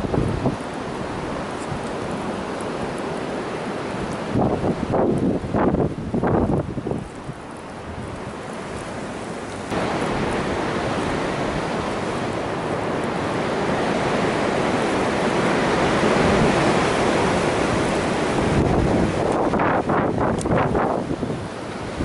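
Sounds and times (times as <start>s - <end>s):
gusty wind on microphone: 0.0s - 3.0s, 3.6s - 22.0s.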